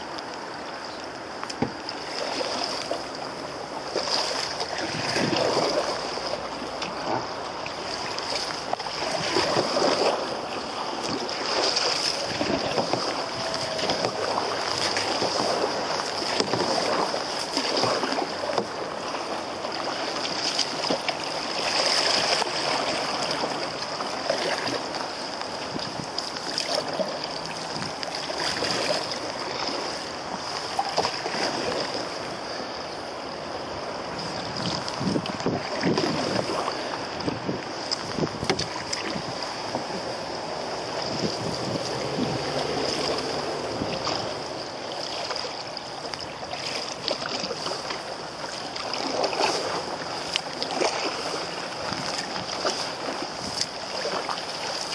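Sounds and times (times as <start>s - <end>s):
river water rushing: 0.0s - 54.9s
water slapping canoe hull: 0.0s - 54.9s.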